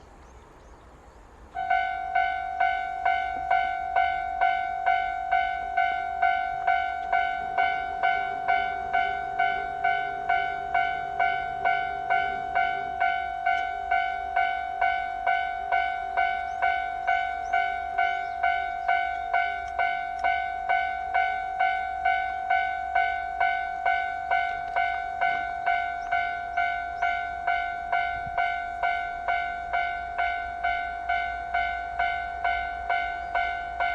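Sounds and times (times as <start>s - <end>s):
level crossing alarm dinging: 1.6s - 33.9s.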